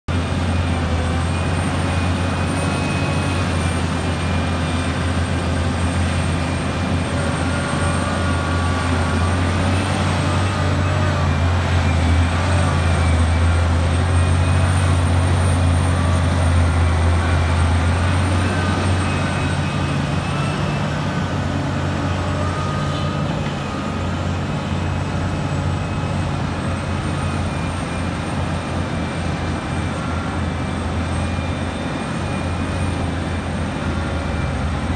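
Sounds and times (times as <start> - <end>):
excavator engine droning with whine: 0.1 - 34.9.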